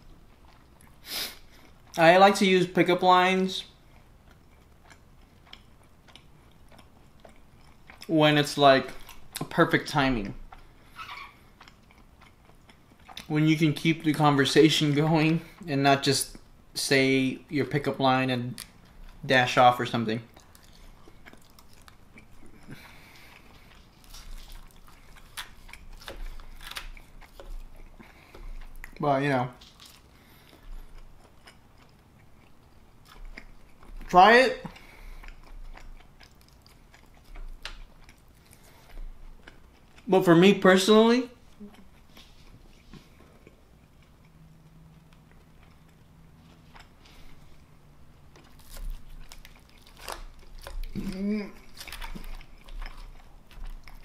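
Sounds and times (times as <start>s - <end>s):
quiet wet chewing: 0.0s - 16.5s, 17.3s - 54.0s.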